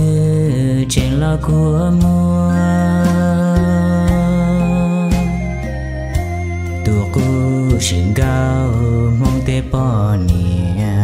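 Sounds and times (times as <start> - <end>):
man singing pop song: 0.0 - 5.7, 6.8 - 11.0
instrumental backing music: 0.0 - 11.0.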